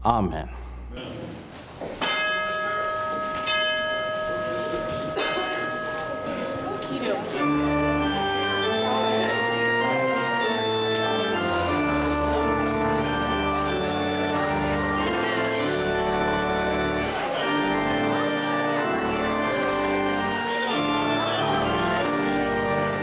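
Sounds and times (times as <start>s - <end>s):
church organ chords: 2.0s - 23.0s.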